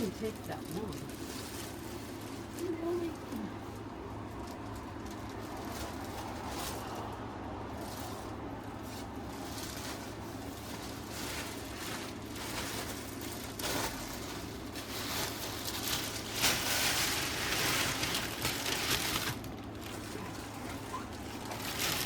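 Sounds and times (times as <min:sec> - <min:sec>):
packaging rustling and crinkling: 0:00.0 - 0:22.0.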